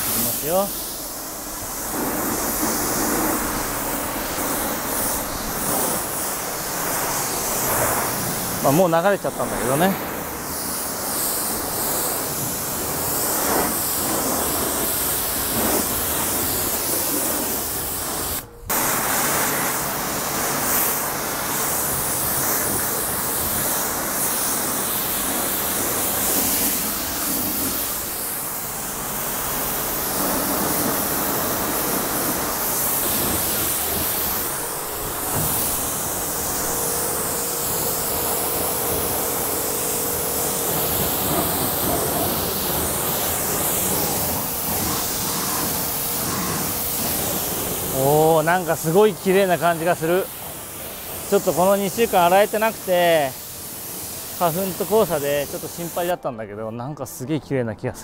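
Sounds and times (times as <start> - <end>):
water spraying onto car: 0.0 - 56.1.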